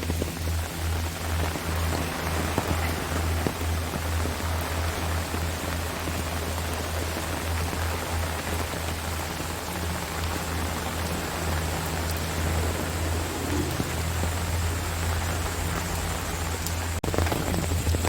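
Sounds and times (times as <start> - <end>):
low pulsing hum: 0.0 - 18.0
rain on foliage: 0.0 - 18.0.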